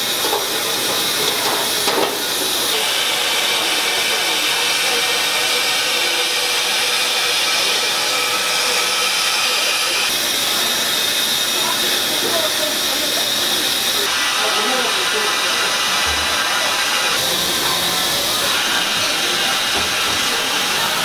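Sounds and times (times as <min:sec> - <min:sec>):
faint voices: 0:00.0 - 0:21.0
steady hissing kitchen noise: 0:00.0 - 0:21.0.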